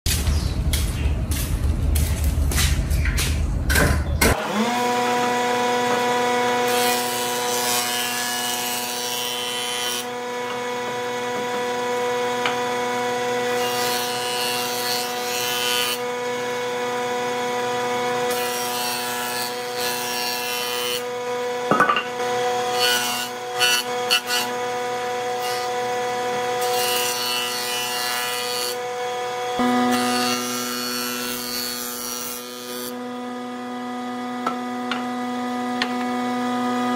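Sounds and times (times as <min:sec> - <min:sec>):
wood cutting noise: 0:04.1 - 0:36.9
jointer motor hum: 0:04.3 - 0:36.9.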